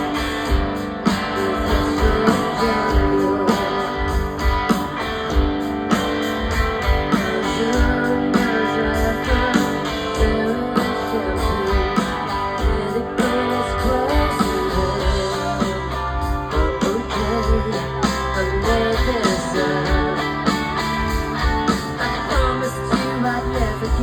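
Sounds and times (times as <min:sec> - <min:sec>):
live rock band playing: 0:00.0 - 0:24.0.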